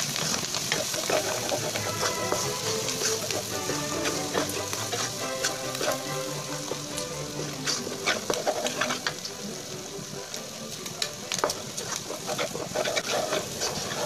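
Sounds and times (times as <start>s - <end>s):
chilli paste sizzling in a wok: 0.0s - 14.0s
spatula scraping across pan: 0.0s - 14.0s.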